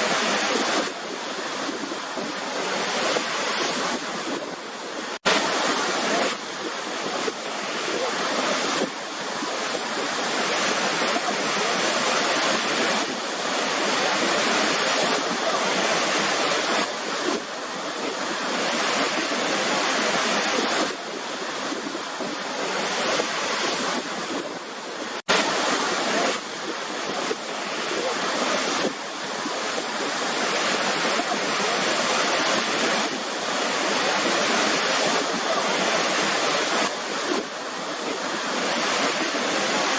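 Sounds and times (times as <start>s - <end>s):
waterfall roar: 0.0s - 39.9s.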